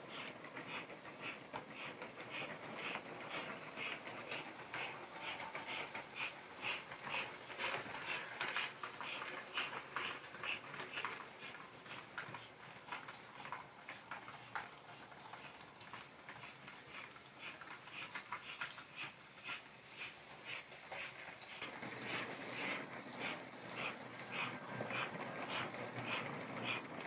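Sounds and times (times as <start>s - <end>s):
model train wheels clicking: 0.0s - 27.0s.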